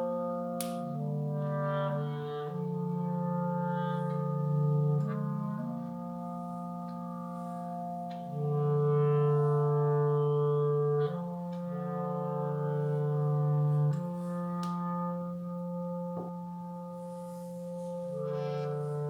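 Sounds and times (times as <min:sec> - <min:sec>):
clarinets holding low chord: 0:00.0 - 0:19.0.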